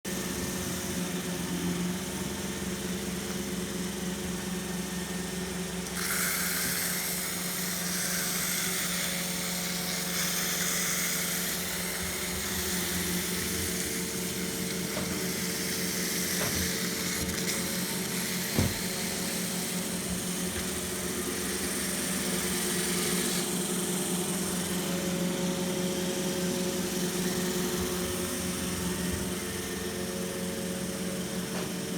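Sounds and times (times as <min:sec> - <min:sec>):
robot vacuum running: 0:00.1 - 0:31.9.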